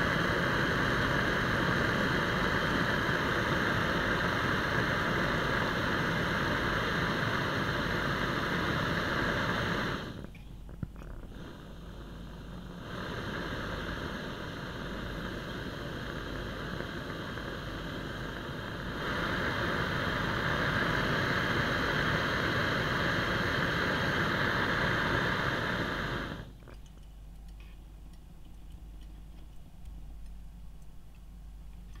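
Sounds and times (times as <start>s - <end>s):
gas burner hissing: 0.0s - 26.6s.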